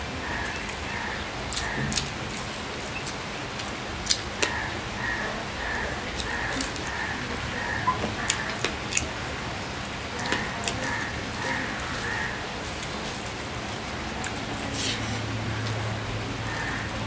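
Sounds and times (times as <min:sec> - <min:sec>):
steady rain: 0:00.0 - 0:17.0
chewing and lip-smacking: 0:00.4 - 0:04.8, 0:06.1 - 0:17.0.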